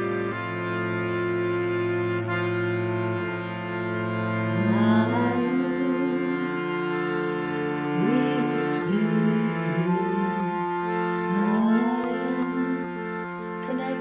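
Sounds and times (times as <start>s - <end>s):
accordion playing slow chords: 0.0s - 14.0s.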